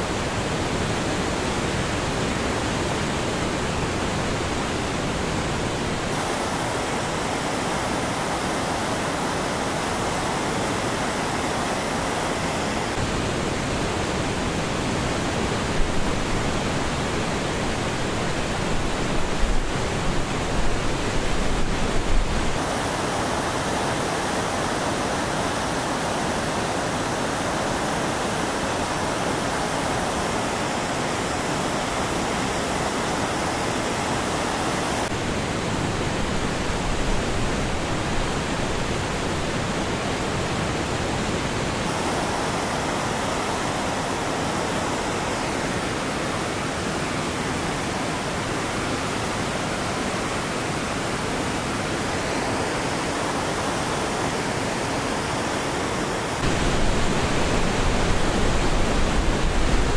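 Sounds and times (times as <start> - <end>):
floodwater rushing through rapids: 0.0 - 59.9.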